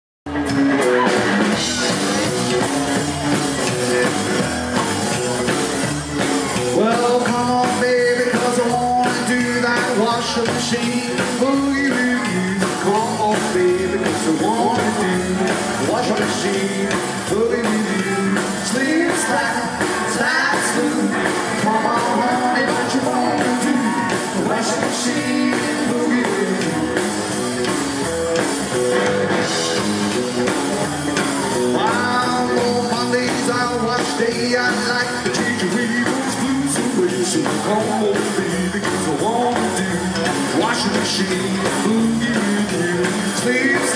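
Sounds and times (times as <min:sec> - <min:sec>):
rockabilly band playing: 0:00.3 - 0:43.9.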